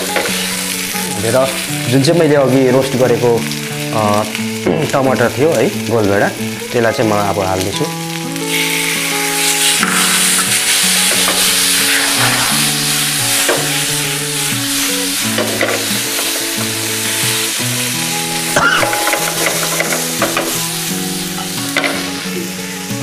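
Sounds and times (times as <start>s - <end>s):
background music with held notes: 0.0s - 23.0s
vegetables sizzling in hot oil: 0.0s - 23.0s.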